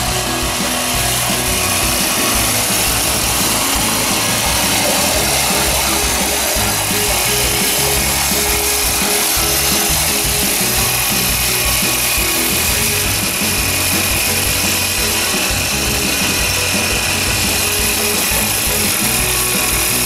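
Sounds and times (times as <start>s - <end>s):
background music: 0.0s - 20.0s
petrol engine running flat out: 0.0s - 20.0s
water pouring from pump outlet: 0.0s - 20.0s.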